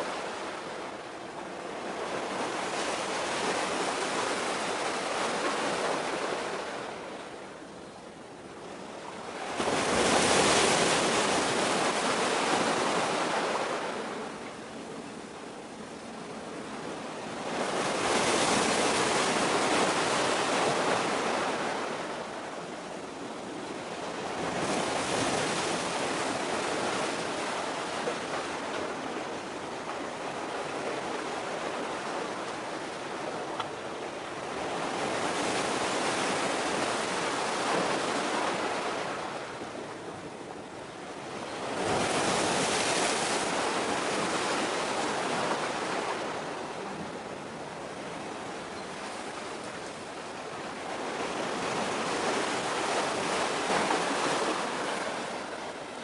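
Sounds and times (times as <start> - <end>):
waves washing on shore: 0.0 - 56.0.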